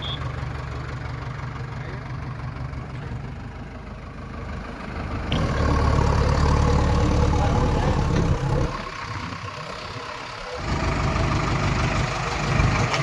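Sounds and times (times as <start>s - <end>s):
diesel engine idling and revving: 0.0s - 13.0s.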